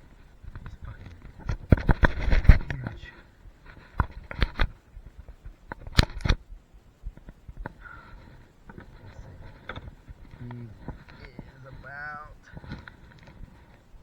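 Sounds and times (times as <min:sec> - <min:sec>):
faint rustling and ticks: 0:00.0 - 0:14.0.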